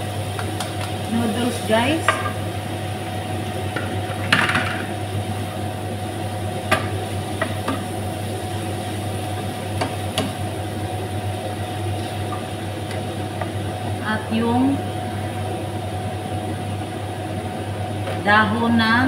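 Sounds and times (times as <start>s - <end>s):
food sizzling in frying pan: 0.0s - 18.8s
constant low hum: 0.0s - 19.0s.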